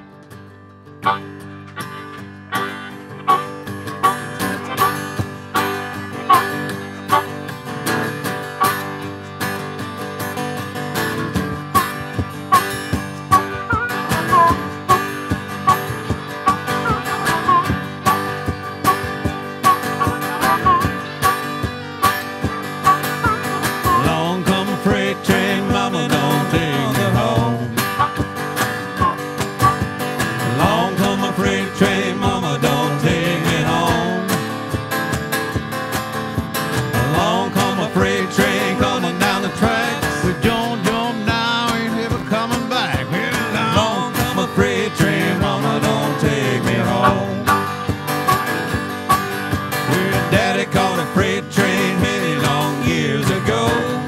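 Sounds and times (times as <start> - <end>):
strummed acoustic guitar: 0.0 - 54.0
harmonica bending lines: 1.0 - 52.7.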